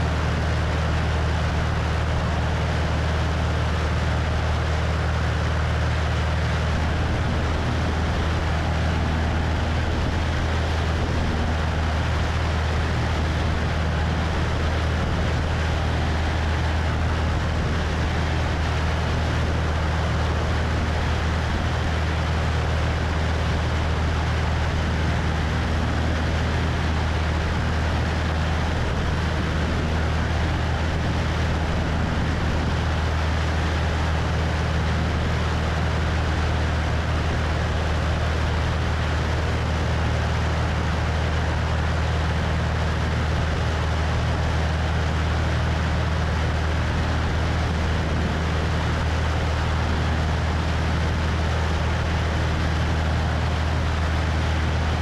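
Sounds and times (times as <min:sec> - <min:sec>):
propeller plane engine droning: 0:00.0 - 0:55.0
wind rush on microphone: 0:00.0 - 0:55.0.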